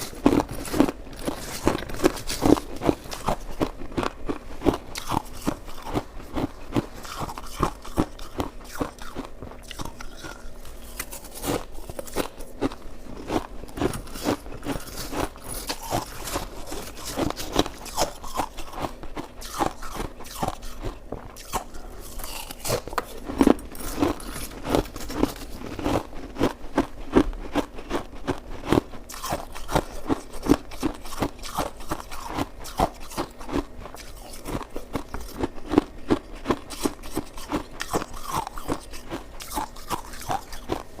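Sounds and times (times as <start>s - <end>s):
crunching and chewing shaved ice: 0.0s - 41.0s.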